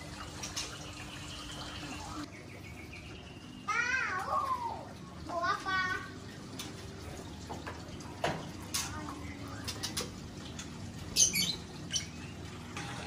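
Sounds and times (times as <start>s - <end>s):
birds chirping: 0.0s - 5.9s, 7.9s - 12.8s.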